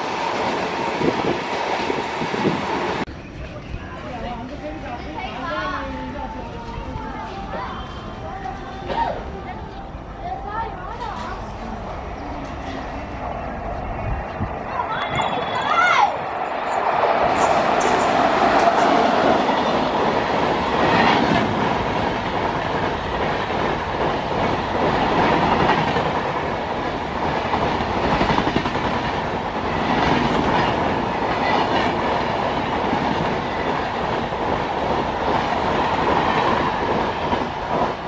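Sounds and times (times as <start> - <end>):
train wheels rushing on rails: 0.0 - 6.1, 10.5 - 38.0.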